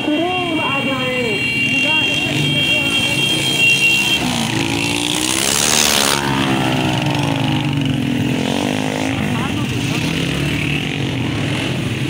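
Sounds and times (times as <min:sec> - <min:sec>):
motorcycles riding past: 0:01.6 - 0:12.0.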